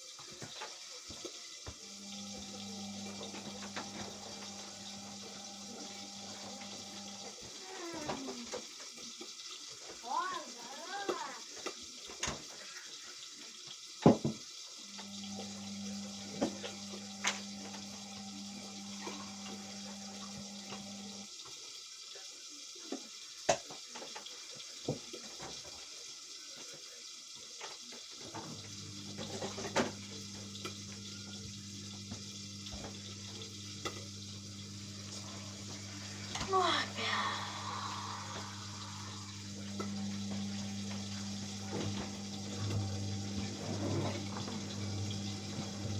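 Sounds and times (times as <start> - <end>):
water hissing into washing machine: 0.0 - 45.9.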